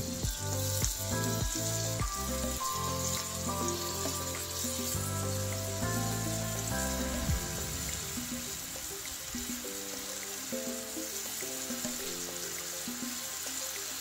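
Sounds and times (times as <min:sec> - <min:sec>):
background music with sustained notes: 0:00.0 - 0:14.0
chicken sizzling in a frying pan: 0:00.0 - 0:14.0.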